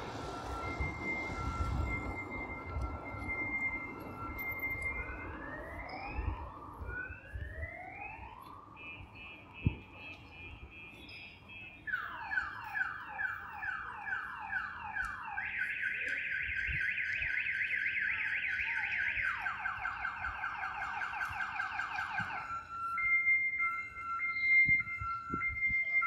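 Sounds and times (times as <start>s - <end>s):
car alarm siren: 0.0s - 26.0s.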